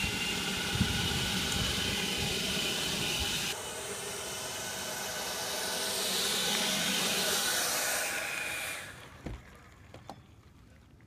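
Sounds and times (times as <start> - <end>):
leaf blower rushing air: 0.0 - 9.2
fan whine: 0.0 - 9.4.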